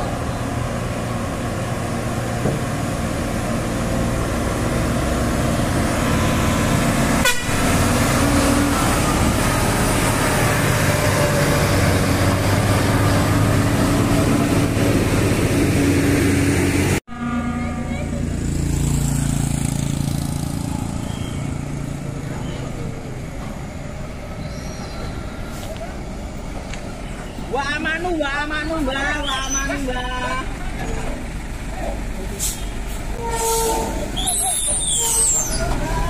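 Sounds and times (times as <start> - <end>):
truck diesel engine climbing: 0.0 - 36.0.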